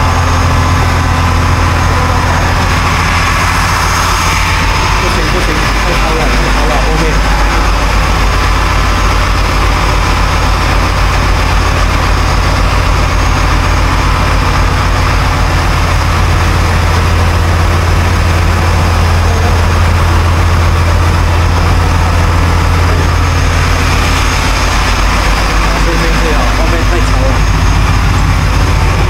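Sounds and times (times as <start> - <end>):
boat engine drone: 0.0 - 29.0
churning wake rushing: 0.0 - 29.0.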